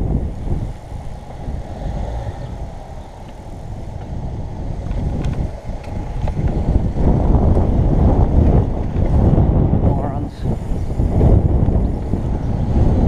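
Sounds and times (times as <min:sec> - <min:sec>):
bike tyres rolling on tarmac: 0:00.0 - 0:13.0
wind buffeting microphone: 0:00.0 - 0:13.0.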